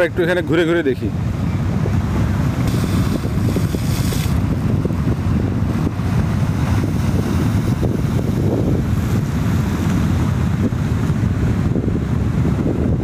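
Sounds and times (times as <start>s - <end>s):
sea waves on shore: 0.0s - 13.0s
wind buffeting microphone: 0.0s - 13.0s.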